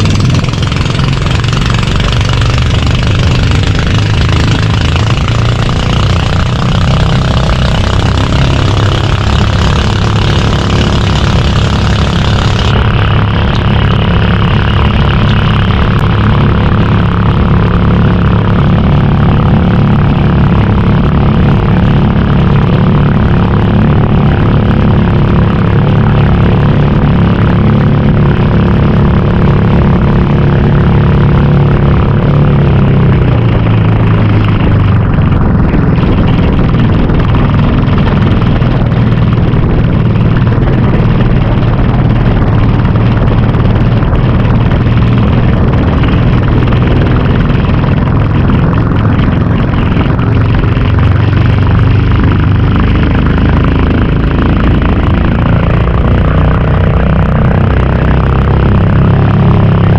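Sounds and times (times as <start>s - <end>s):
boat engine running: 0.0s - 59.9s
rush of wind and water: 0.0s - 59.9s.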